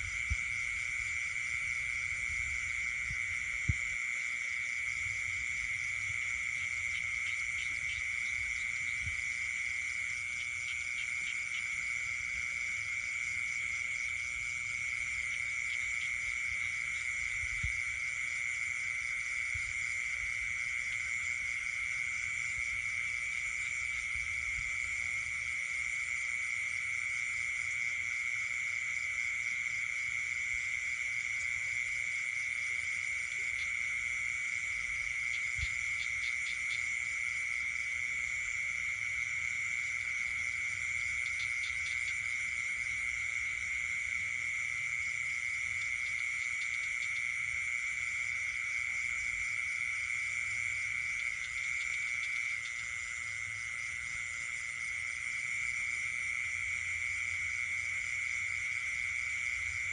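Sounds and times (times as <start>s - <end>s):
frogs pulsing calls: 0.0s - 59.9s
high insect trill: 0.0s - 59.9s.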